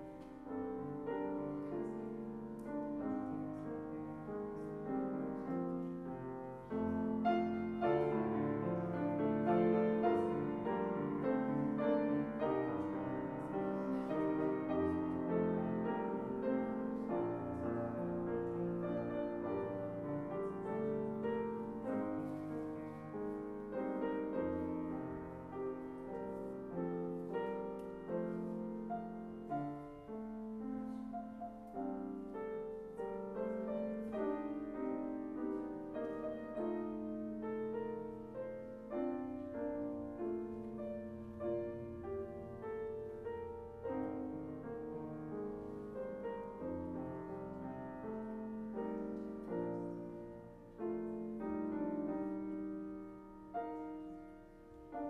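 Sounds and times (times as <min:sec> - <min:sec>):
solo grand piano piece: 0:00.0 - 0:55.0.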